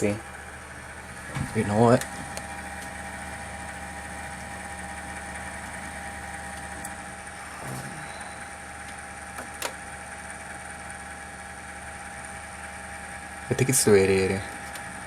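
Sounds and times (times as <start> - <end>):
computer hum and rumble: 0.0 - 15.0.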